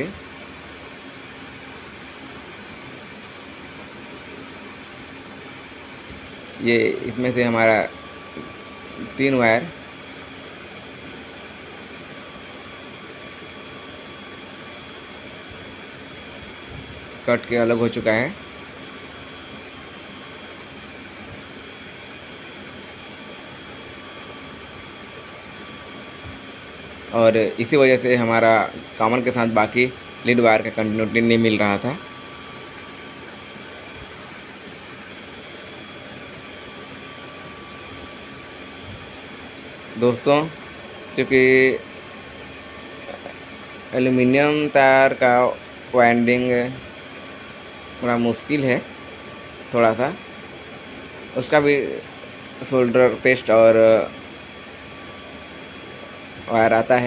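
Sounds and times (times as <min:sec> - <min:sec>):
background hiss and hum: 0:00.0 - 0:57.0.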